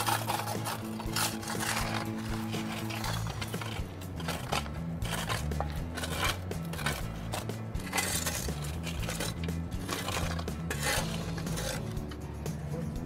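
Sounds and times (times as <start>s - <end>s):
shovels scraping dirt and asphalt: 0.0s - 12.0s
background music with bass line: 0.0s - 13.0s.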